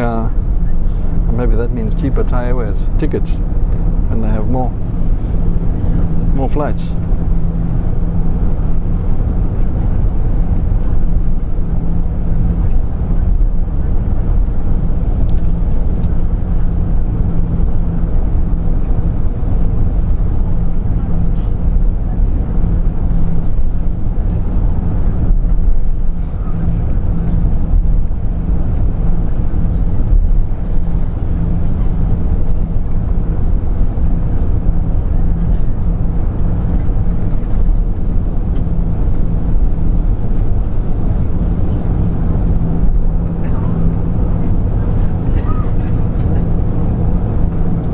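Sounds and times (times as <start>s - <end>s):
aircraft engine and airflow rumble: 0.0s - 47.9s
constant low hum: 0.0s - 47.9s.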